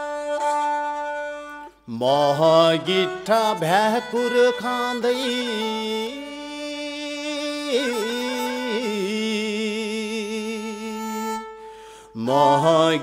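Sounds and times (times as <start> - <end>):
bowed fiddle long notes: 0.0 - 13.0.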